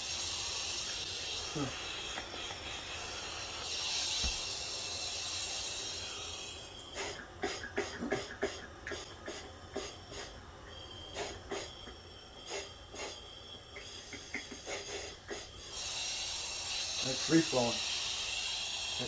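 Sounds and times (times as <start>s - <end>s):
compressed air hissing: 0.0s - 19.0s.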